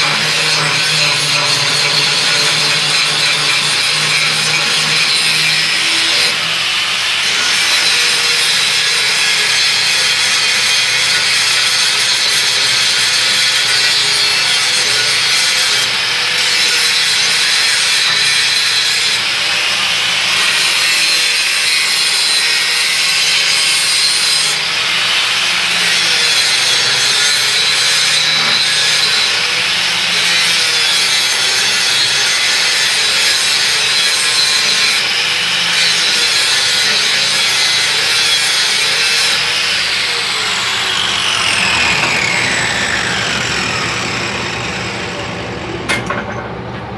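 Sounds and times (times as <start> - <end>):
grinder grinding steel: 0.0 - 46.8.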